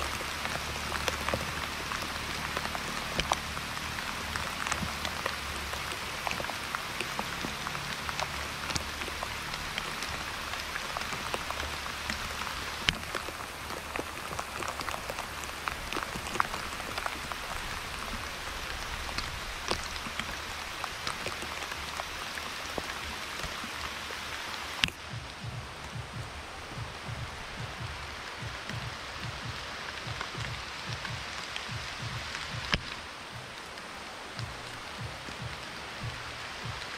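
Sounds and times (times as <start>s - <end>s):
rain falling on leaves: 0.0s - 36.9s.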